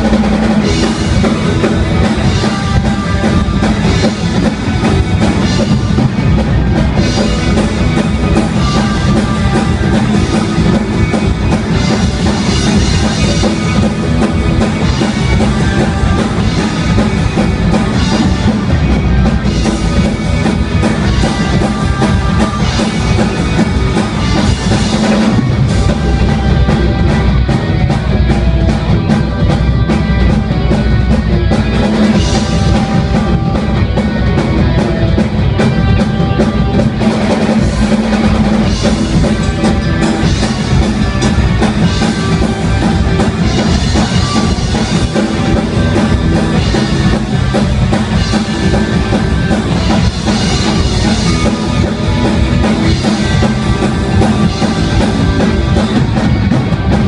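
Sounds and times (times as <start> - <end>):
drum kit with cymbals: 0.0 - 57.0
rock band playing: 0.0 - 57.0.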